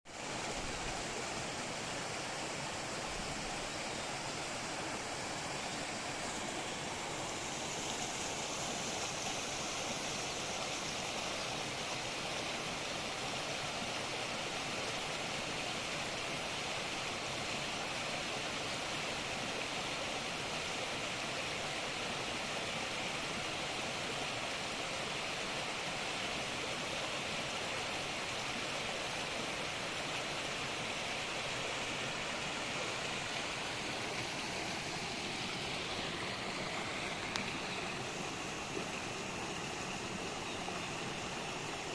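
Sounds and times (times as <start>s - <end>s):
water rushing over rocks: 0.1s - 41.9s.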